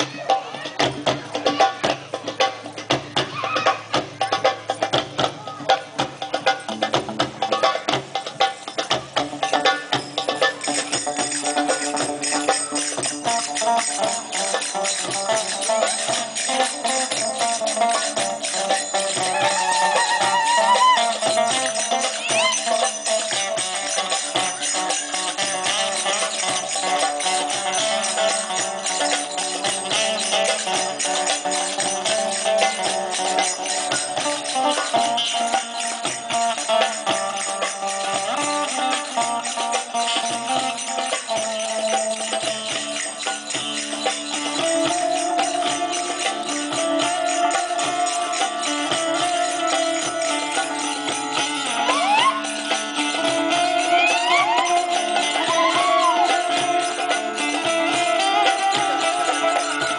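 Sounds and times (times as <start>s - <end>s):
percussion beat with jingling: 0.0s - 59.9s.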